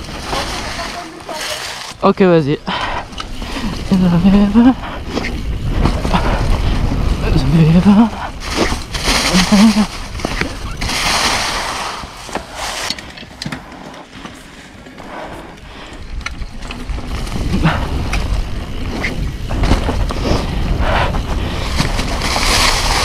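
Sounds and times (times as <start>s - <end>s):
bike tyres crunching on dirt: 0.0s - 23.0s.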